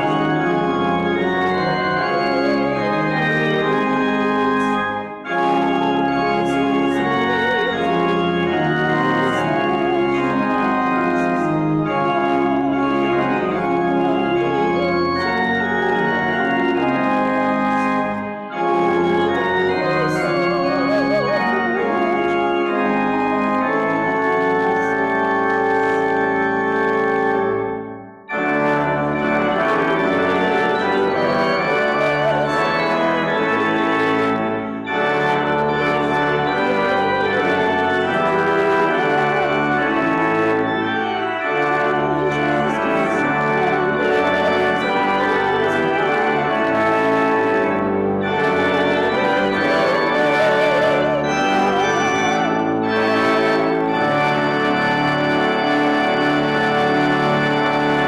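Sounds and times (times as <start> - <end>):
pipe organ playing a hymn: 0.0 - 58.0.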